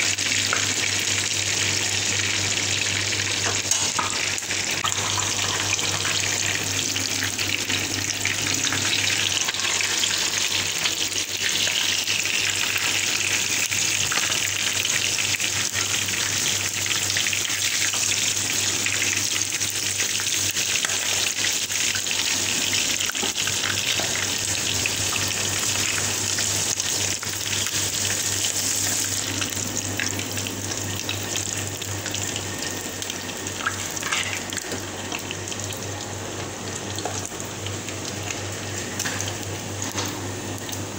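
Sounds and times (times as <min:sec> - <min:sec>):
fish sizzling in hot oil: 0:00.0 - 0:40.9.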